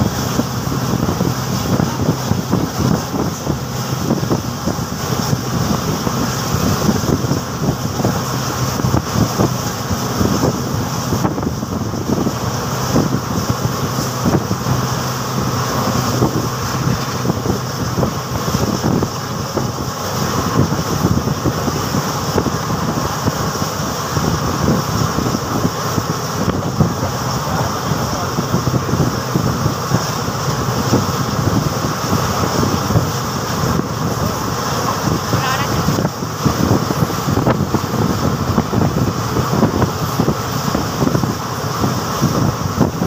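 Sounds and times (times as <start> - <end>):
train wheels rumbling on rails: 0.0 - 43.0
wind buffeting microphone: 0.0 - 43.0.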